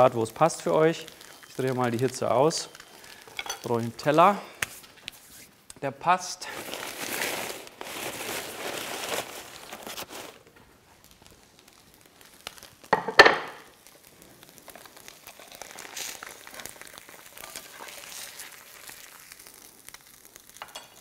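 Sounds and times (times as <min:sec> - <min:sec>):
butter crackling in pan: 0:00.0 - 0:05.2, 0:06.8 - 0:21.0.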